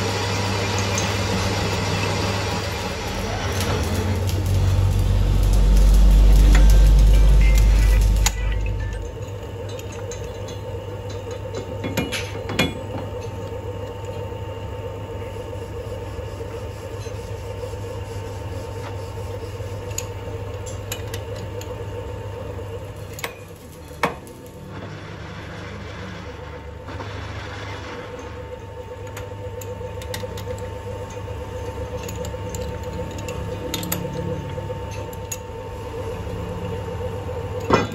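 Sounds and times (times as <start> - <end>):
low machine hum: 0.0 - 37.9.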